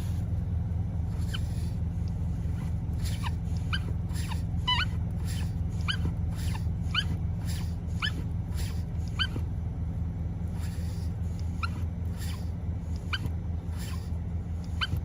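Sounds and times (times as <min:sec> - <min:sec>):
steady low hum: 0:00.0 - 0:15.0
car rhythmic high-pitched squeak: 0:00.9 - 0:15.0.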